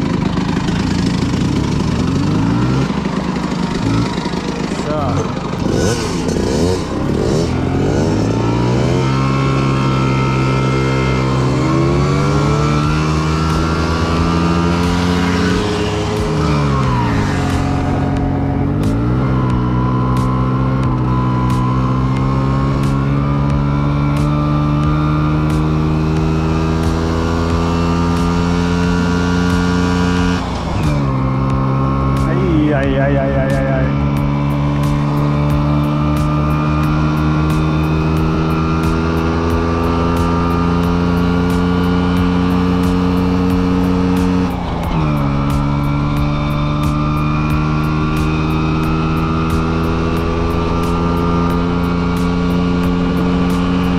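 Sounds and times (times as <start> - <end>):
two-stroke moped engine revving: 0.0 - 53.9.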